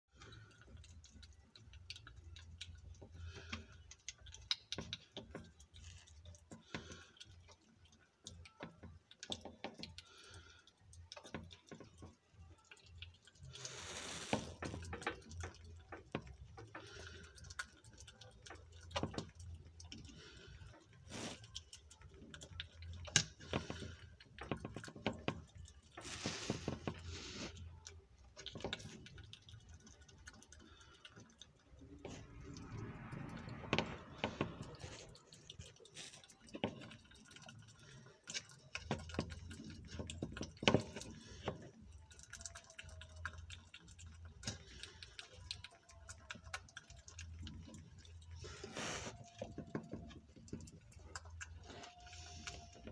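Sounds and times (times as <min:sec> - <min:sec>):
animal chewing wet clicks: 0:00.1 - 0:52.9.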